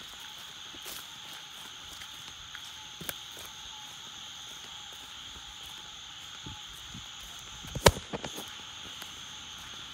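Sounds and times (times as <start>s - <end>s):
insects and frogs calling: 0.0s - 9.9s.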